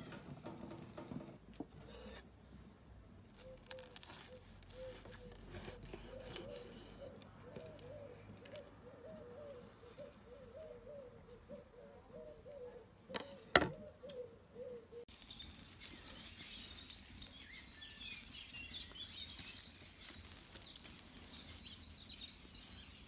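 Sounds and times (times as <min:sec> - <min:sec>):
bird calling: 0:03.4 - 0:23.0.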